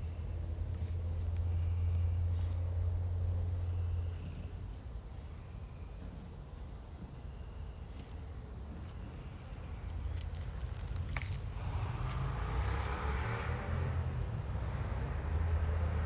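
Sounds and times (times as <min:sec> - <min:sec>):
cat purring: 0:00.7 - 0:16.0.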